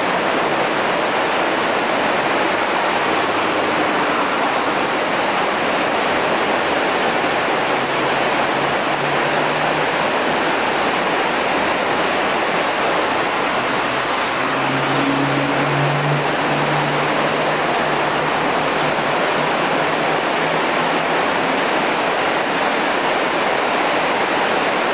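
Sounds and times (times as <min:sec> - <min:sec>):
vehicle engine hum: 0:00.0 - 0:24.0
river rushing: 0:00.0 - 0:24.9.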